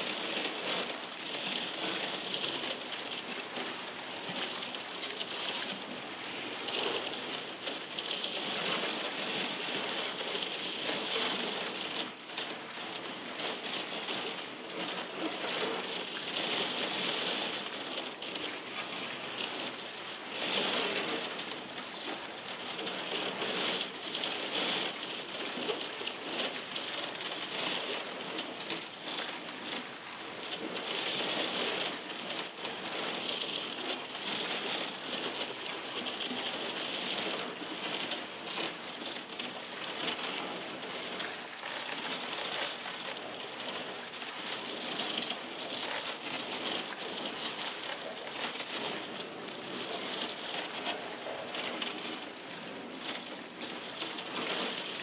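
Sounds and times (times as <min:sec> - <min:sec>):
processed crackling ice clicks: 0:00.0 - 0:55.0.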